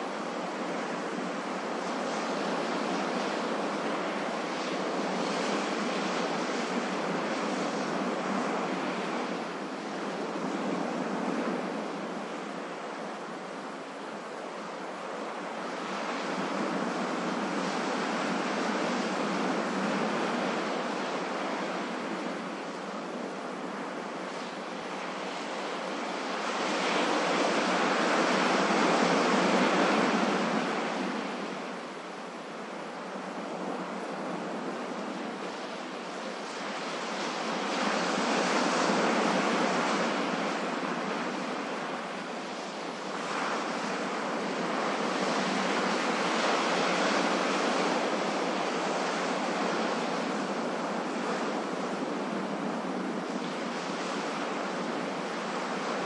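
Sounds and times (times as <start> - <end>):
ocean waves washing onto shore: 0.0 - 56.0.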